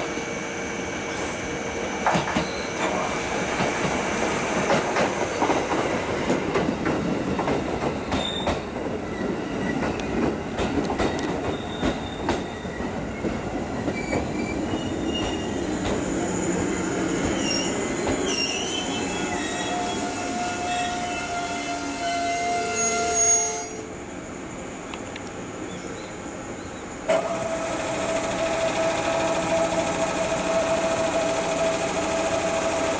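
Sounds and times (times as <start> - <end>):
train brakes squealing: 0.0 - 6.1, 8.1 - 10.2, 11.0 - 32.9
mechanical hum from train: 0.0 - 32.9.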